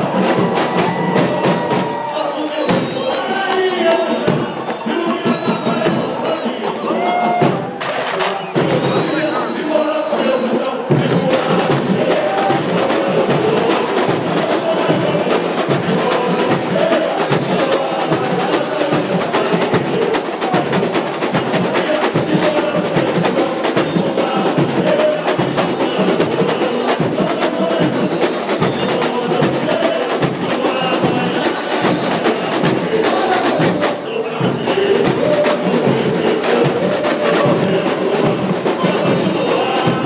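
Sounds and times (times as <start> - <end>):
samba drums playing: 0.0 - 40.0
voices singing: 0.0 - 40.0.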